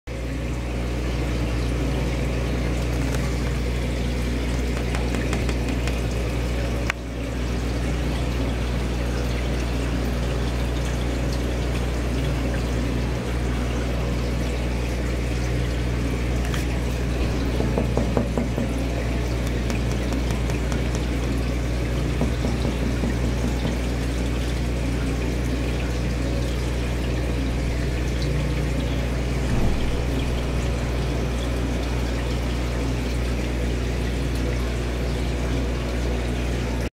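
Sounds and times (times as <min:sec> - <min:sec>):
low pump hum: 0:00.1 - 0:36.9
pouring water from aquarium filter: 0:00.2 - 0:36.6.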